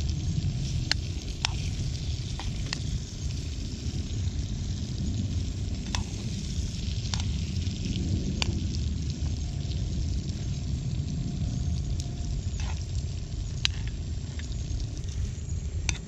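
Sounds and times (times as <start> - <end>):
fish sizzling in butter: 0.0 - 16.0.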